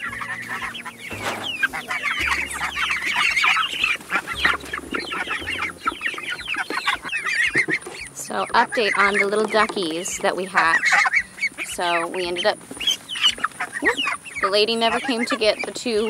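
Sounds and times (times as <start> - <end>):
chickens clucking and peeping: 0.0 - 16.0.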